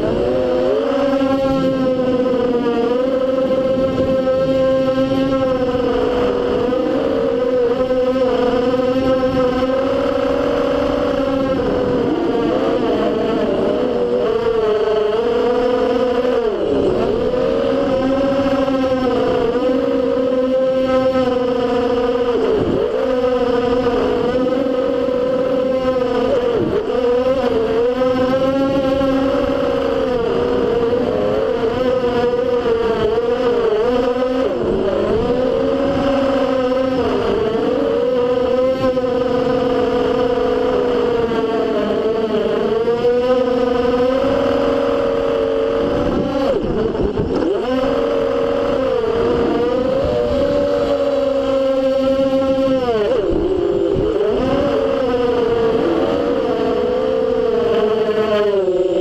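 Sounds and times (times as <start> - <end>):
drone propellers whining: 0.0 - 59.0
wind noise: 0.0 - 59.0.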